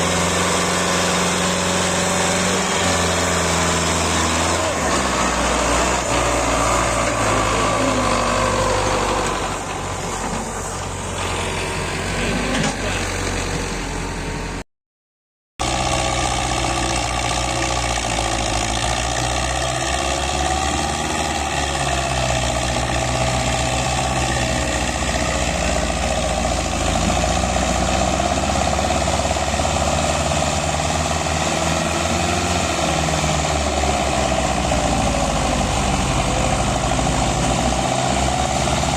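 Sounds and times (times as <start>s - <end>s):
tractor engine running: 0.0s - 14.6s, 15.6s - 38.9s.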